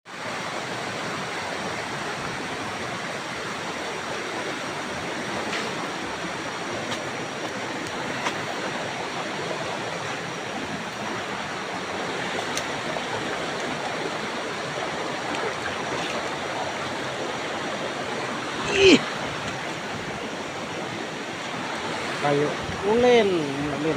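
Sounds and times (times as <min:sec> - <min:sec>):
stream water rushing: 0:00.1 - 0:23.9.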